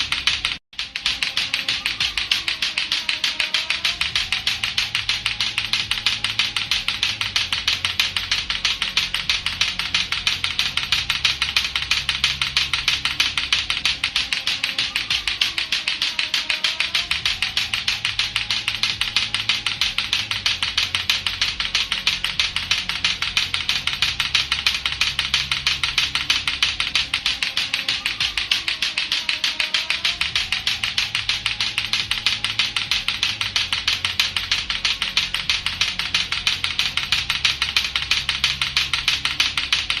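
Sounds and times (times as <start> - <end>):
plastic clacker balls knocking: 0.0 - 40.0.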